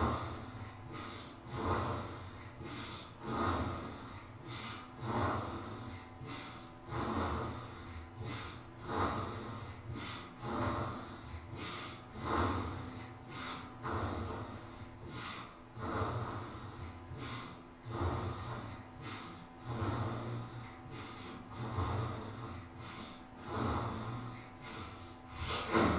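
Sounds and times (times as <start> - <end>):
baby snoring: 0.0 - 25.9.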